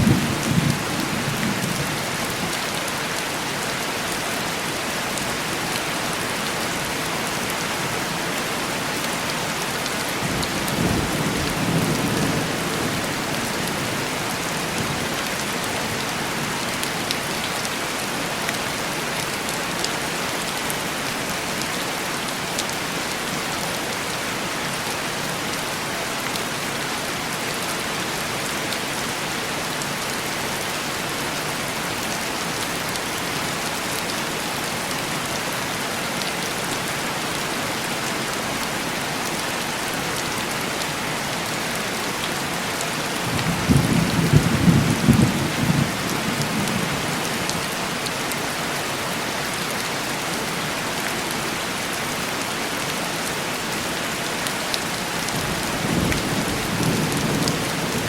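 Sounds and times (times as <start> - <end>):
heavy rain on a window: 0.0 - 58.0.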